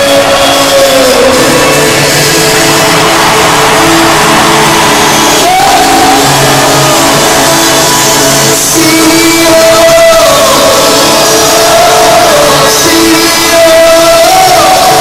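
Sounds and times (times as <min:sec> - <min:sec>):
loud crowd noise: 0:00.0 - 0:15.0.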